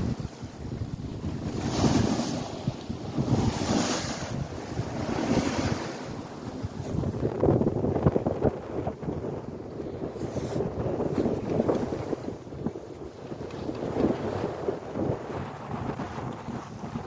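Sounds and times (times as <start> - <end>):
bow wave rushing along hull: 0.0 - 17.0
wind buffeting microphone: 0.0 - 17.0.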